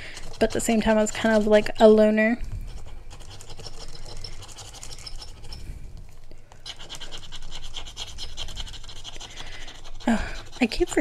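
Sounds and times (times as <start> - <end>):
tool scratching card coating: 0.0 - 2.0, 2.6 - 5.6, 6.6 - 11.0.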